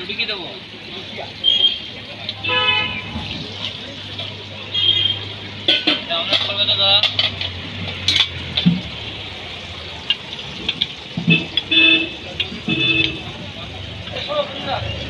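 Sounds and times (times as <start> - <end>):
ladles clinking against metal pots: 1.3 - 14.2.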